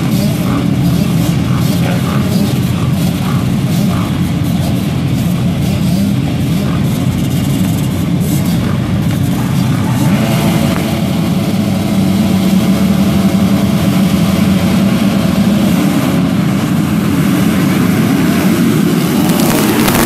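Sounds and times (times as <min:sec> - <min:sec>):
motocross bikes revving and accelerating: 0:00.0 - 0:20.0.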